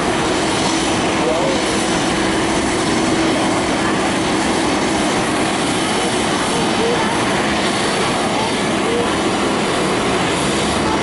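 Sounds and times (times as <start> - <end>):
distant jet engine rush: 0.0 - 11.0.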